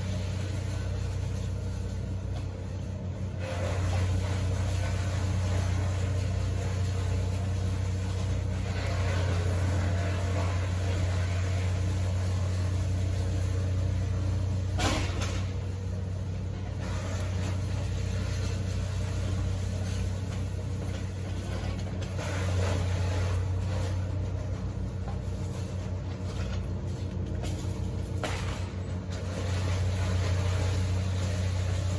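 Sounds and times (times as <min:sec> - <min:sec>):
low engine hum: 0:00.0 - 0:31.9.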